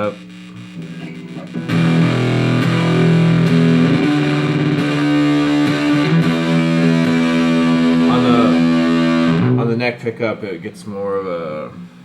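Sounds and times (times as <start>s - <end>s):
fuzz electric guitar: 0.0s - 10.0s.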